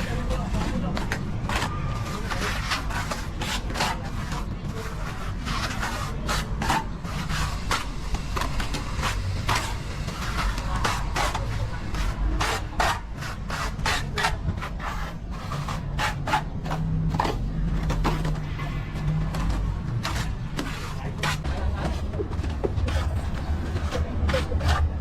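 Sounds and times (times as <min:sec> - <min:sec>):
trowel scraping plaster on wall: 0:00.0 - 0:25.0.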